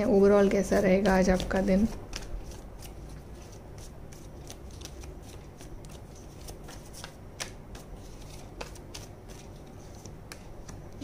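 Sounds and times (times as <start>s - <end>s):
cards being shuffled: 0.4s - 11.0s.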